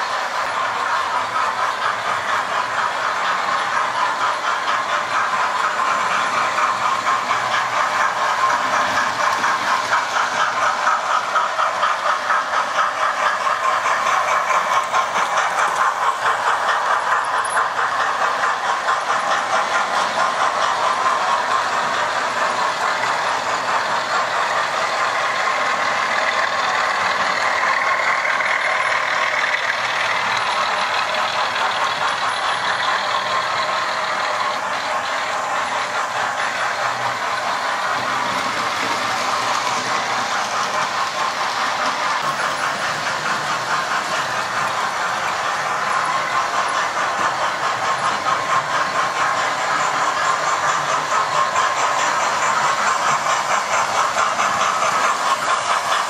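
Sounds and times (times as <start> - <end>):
model train motors whirring: 0.0 - 56.0
wheels clicking over track: 0.0 - 56.0.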